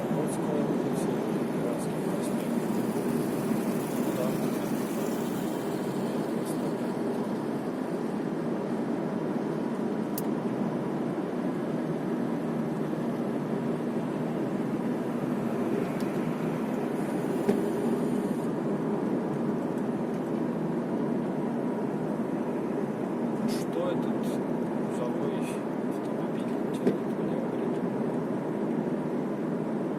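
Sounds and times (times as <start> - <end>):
car road and engine noise: 0.0 - 29.9.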